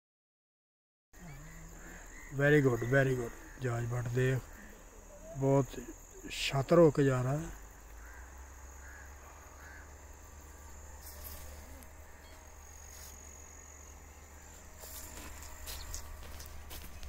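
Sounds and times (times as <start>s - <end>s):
insects chirring: 1.2s - 17.0s.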